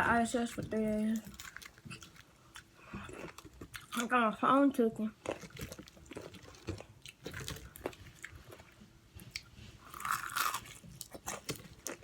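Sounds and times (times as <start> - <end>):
person chewing food: 0.8 - 4.1, 5.2 - 12.0.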